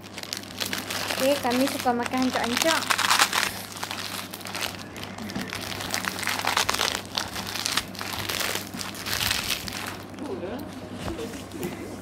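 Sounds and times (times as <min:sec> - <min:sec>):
dried noodles breaking: 0:00.0 - 0:10.2
plastic packet crinkling: 0:00.0 - 0:10.7.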